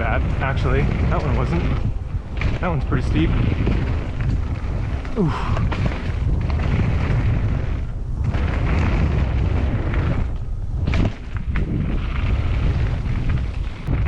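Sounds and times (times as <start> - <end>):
bike rattling over rocks: 0.0 - 14.0
wind and tyre rumble: 0.0 - 14.0.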